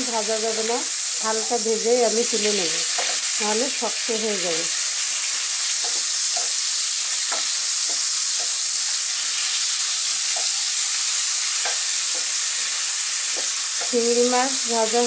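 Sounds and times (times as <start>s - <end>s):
prawns sizzling in oil: 0.0s - 15.0s.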